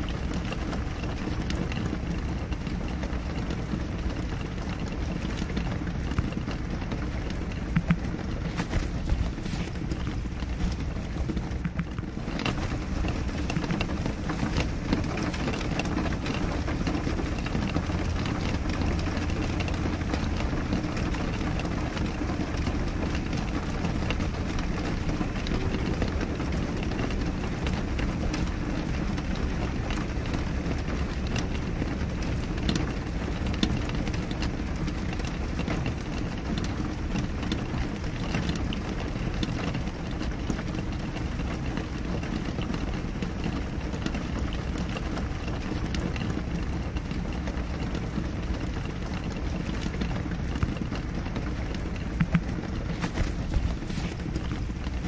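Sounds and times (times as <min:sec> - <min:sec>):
rain pattering on window: 0:00.0 - 0:55.0.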